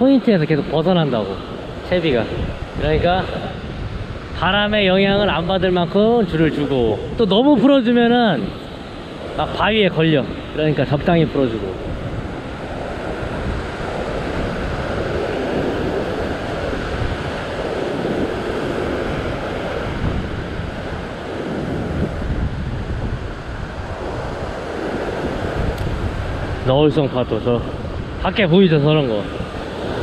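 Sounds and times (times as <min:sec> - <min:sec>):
ocean surf over rocks: 0:00.0 - 0:30.0
wind on microphone: 0:00.0 - 0:30.0.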